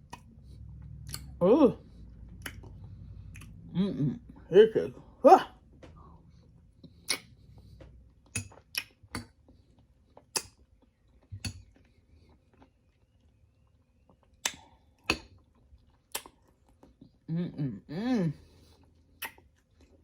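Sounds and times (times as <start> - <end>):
person chewing: 0.0 - 4.5, 6.0 - 17.3, 18.5 - 20.0.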